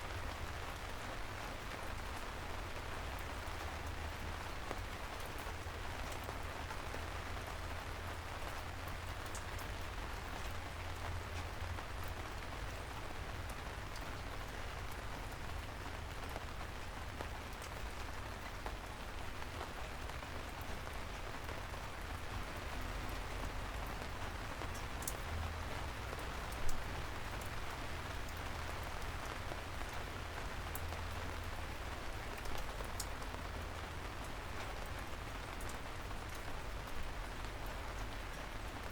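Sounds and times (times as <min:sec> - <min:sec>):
gentle rain on a street: 0:00.0 - 0:38.9.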